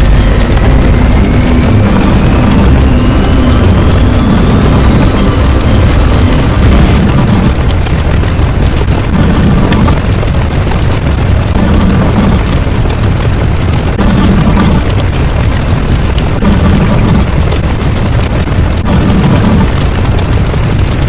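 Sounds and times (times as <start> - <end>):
layered sound effects with low rumble: 0.0 - 21.0.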